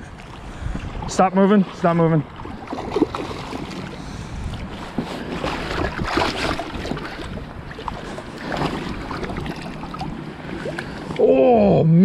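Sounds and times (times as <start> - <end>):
wind buffeting microphone: 0.0 - 11.2
river water splashing: 0.0 - 11.9.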